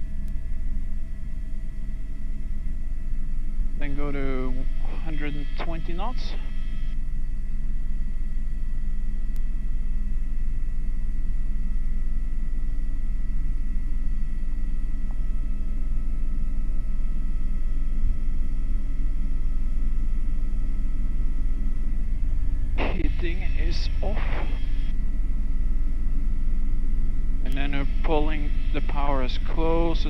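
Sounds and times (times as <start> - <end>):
helicopter rotor and turbine rumble: 0.0 - 30.0.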